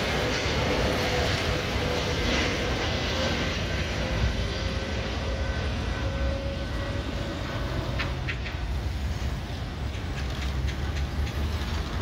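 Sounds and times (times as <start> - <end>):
faint engine whine: 0.0 - 12.0
jet airliner passing overhead: 0.0 - 12.0.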